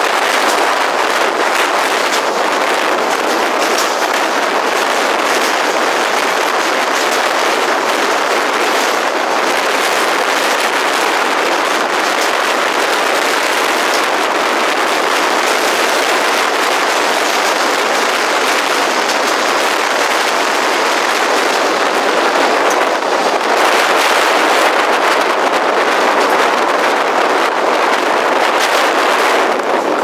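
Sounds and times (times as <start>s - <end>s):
faint rail clicks: 0.0s - 30.0s
train wheel and wind rush: 0.0s - 30.0s.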